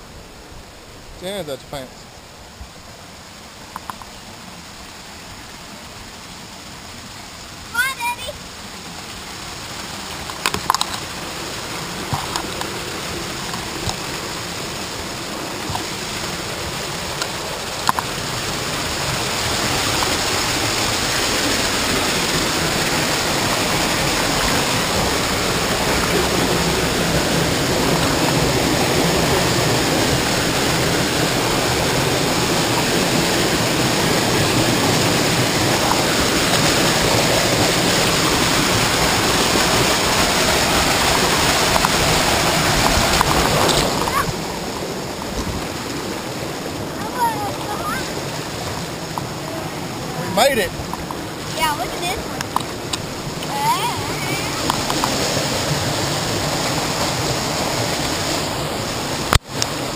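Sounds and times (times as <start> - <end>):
whitewater rushing over rocks: 0.0 - 59.9.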